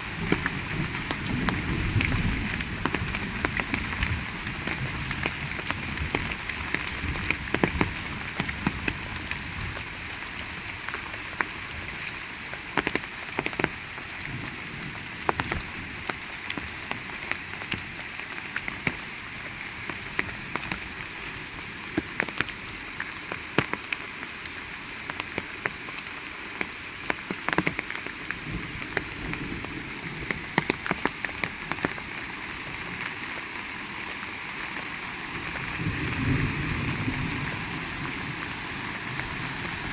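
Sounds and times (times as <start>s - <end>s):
close raindrop hits: 0.0s - 39.9s
heavy rain: 0.0s - 39.9s.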